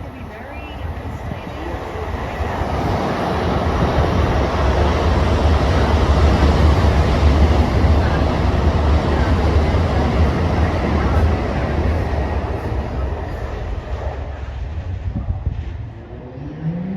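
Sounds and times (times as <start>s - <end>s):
train rumbling through station: 0.0s - 16.9s
wheel and rail noise: 0.0s - 16.9s.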